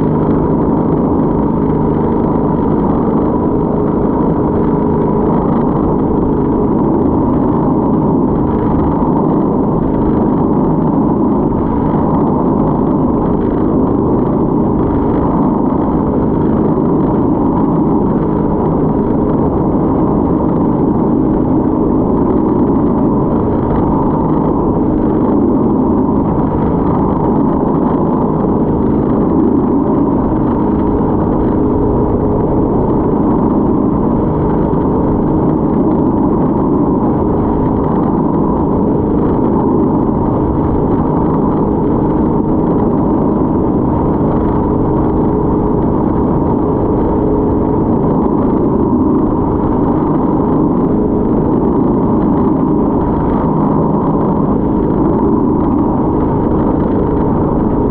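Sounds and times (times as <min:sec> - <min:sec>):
motorboat engine droning: 0:00.0 - 0:57.9.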